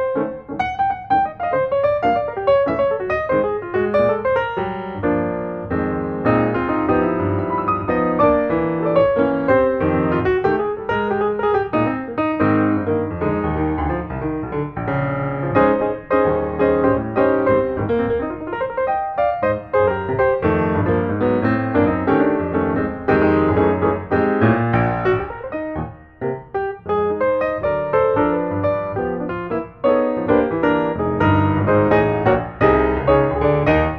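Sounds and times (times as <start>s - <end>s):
piano music: 0.0s - 33.9s.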